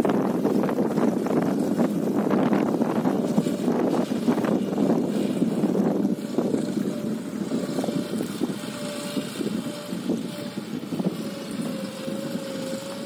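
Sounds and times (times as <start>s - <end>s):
wind buffeting microphone: 0.0s - 13.0s
distant tractor engine: 0.9s - 13.0s.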